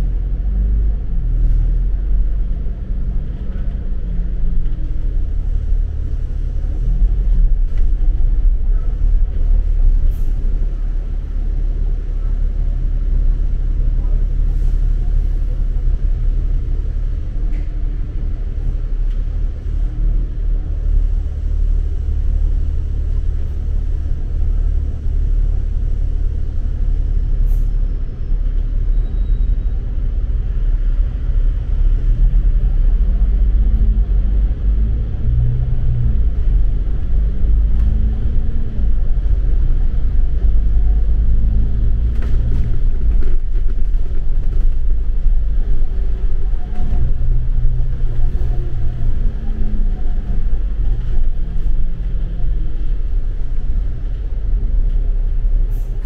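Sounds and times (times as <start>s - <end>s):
low rumble of street: 0.0s - 56.0s.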